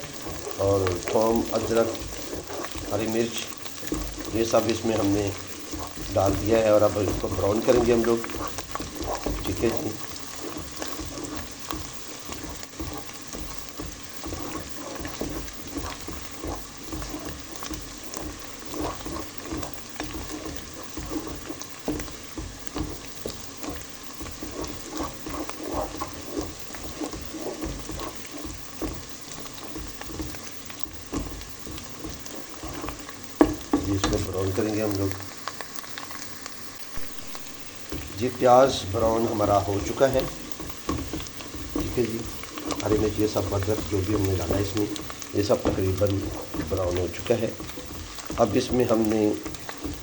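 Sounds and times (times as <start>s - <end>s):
spoon scraping and knocking pot: 0.0s - 36.1s, 37.0s - 50.0s
paste sizzling in hot oil: 0.0s - 50.0s.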